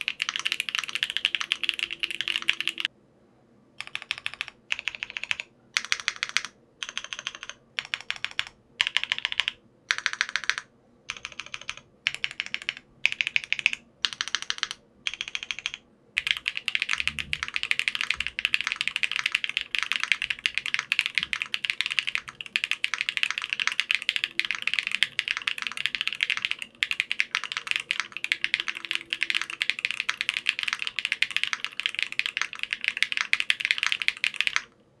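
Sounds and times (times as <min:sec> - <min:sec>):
mechanical keyboard typing: 0:00.0 - 0:02.9, 0:03.8 - 0:34.8.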